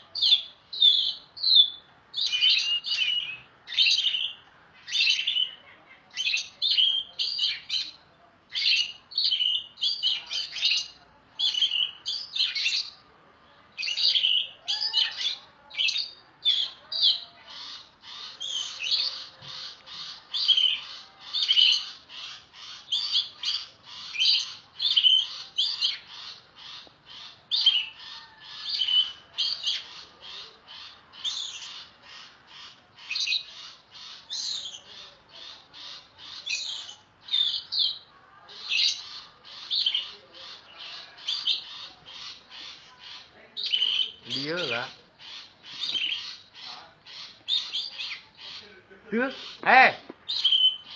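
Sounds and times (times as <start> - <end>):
bird singing: 0.0 - 13.0, 13.8 - 50.9.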